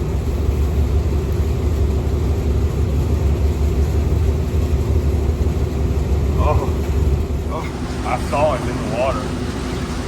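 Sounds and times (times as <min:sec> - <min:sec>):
boat motor rumbling: 0:00.0 - 0:10.0.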